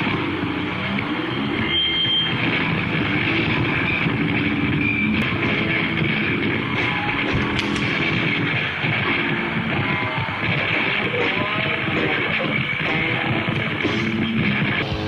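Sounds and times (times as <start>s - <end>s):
distorted live rock band: 0.0s - 15.0s.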